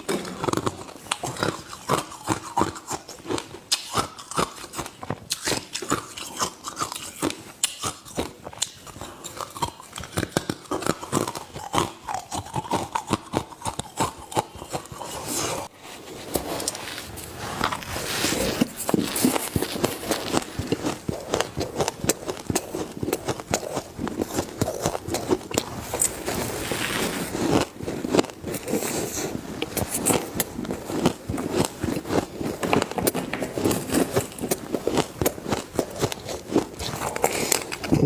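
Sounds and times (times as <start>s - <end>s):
ice being chewed: 0.0s - 38.0s.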